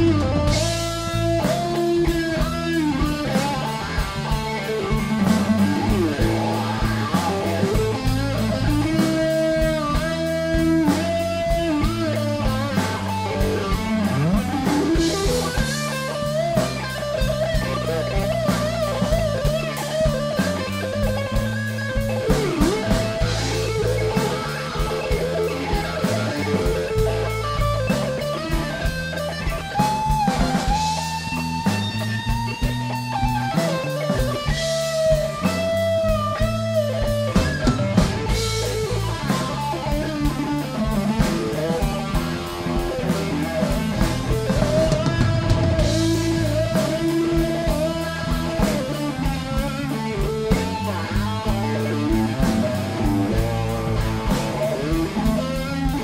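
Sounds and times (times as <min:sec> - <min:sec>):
blues band playing live: 0:00.0 - 0:56.0
electric guitar solo: 0:00.0 - 0:56.0.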